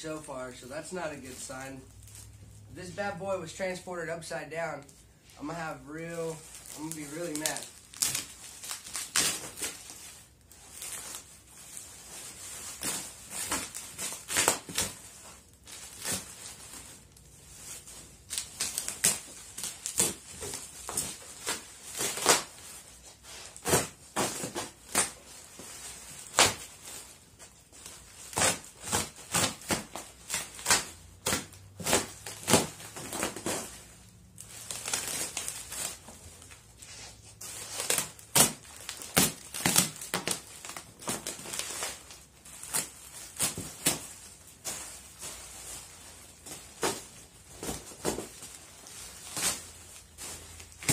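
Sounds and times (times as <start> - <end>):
bubble wrap crinkling and crackling: 0.0 - 50.9.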